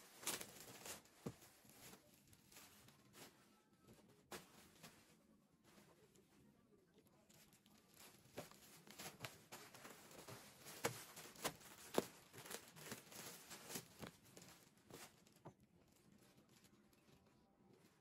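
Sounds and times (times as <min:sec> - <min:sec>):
household things being handled: 0:00.0 - 0:18.0.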